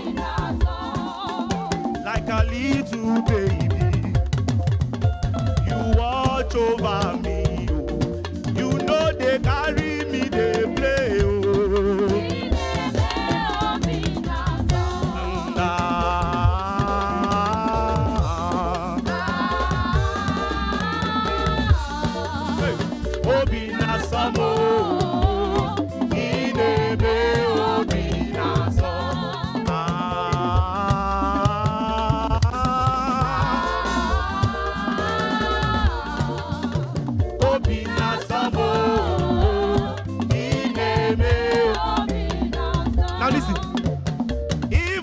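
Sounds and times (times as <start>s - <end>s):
upbeat gospel music: 0.0s - 45.0s.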